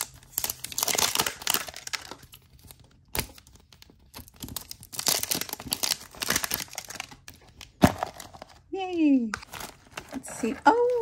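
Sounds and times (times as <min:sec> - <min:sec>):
plastic wrapping crinkling and tearing: 0:00.0 - 0:11.0.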